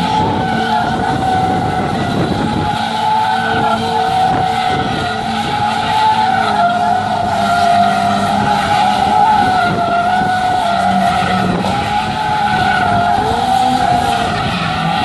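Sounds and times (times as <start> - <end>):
car engine running: 0.0 - 15.0
tyres squealing in a skid: 0.0 - 15.0.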